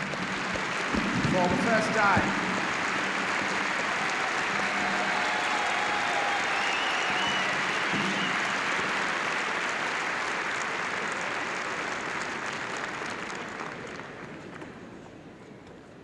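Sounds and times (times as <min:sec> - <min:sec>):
crowd applauding: 0:00.0 - 0:15.2.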